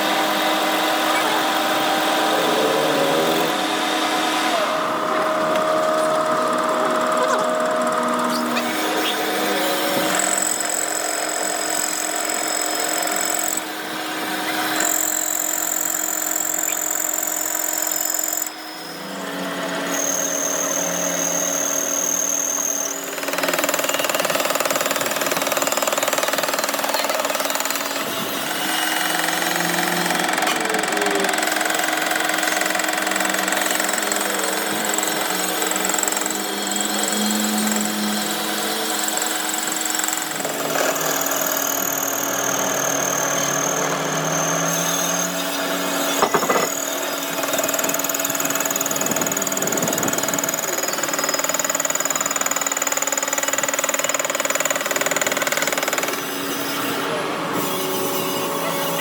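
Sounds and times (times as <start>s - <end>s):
power tools running: 0.0s - 59.0s.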